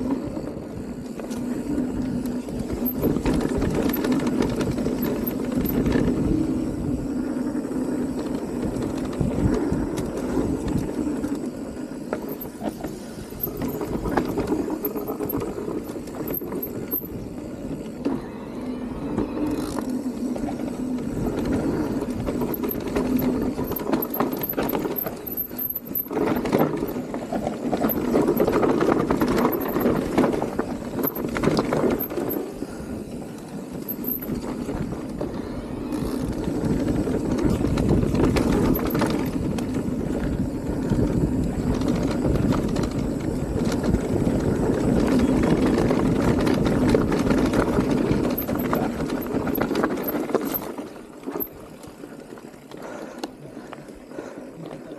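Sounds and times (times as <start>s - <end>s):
bike rattling and knocking: 0.0s - 18.2s, 19.2s - 35.3s, 35.9s - 53.1s
bike tyres rolling on dirt: 0.0s - 54.9s.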